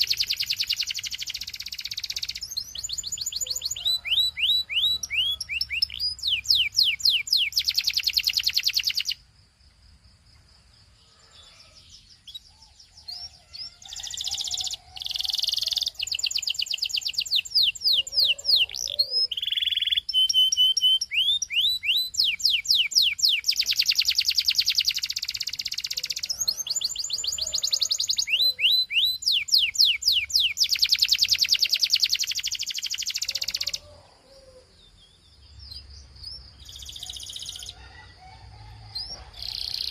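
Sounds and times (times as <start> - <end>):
canary singing trills: 0.0 - 9.2, 11.0 - 39.9.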